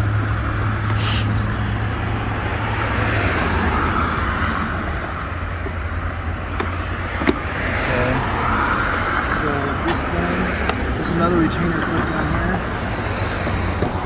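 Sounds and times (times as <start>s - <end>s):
engine running: 0.0s - 14.0s
road traffic: 0.0s - 14.0s.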